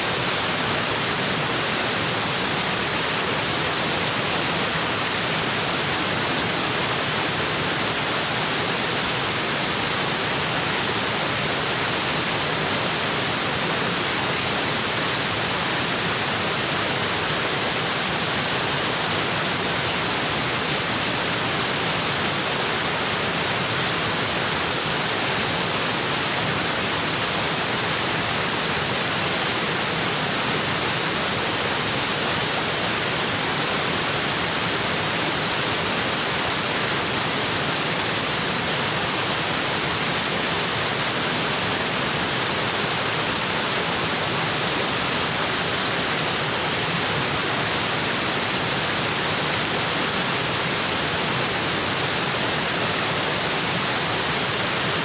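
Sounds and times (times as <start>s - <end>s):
waterfall rushing onto rocks: 0.0s - 55.0s.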